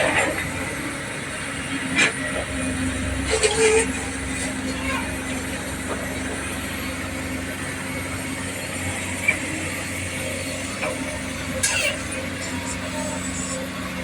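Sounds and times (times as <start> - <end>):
heavy diesel machinery engine: 0.0 - 14.0.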